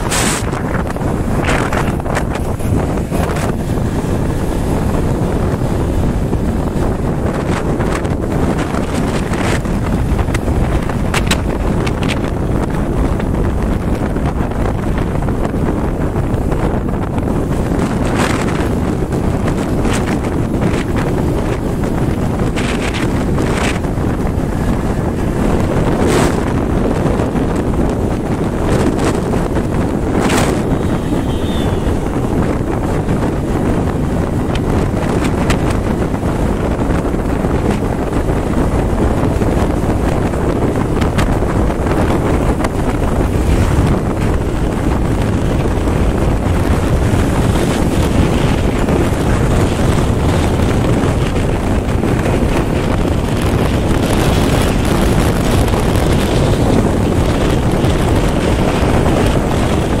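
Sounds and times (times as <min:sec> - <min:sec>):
motorcycle engine: 0:00.0 - 1:00.0
road noise: 0:00.0 - 1:00.0
wind rush on microphone: 0:00.0 - 1:00.0.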